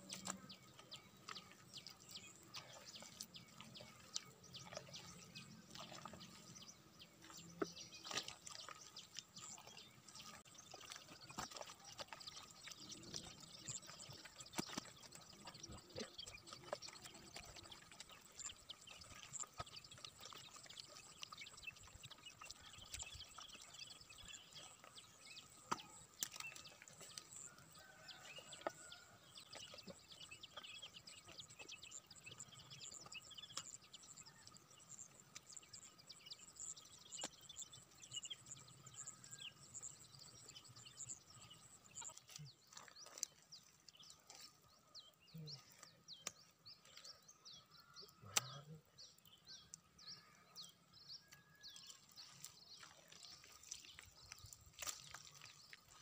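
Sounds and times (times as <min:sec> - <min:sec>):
small birds chirping: 0:00.0 - 0:56.0
wet mud squelching: 0:00.0 - 0:56.0.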